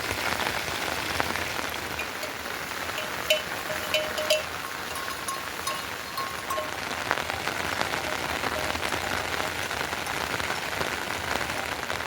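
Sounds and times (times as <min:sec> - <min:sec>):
heavy rain pattering: 0:00.0 - 0:12.0.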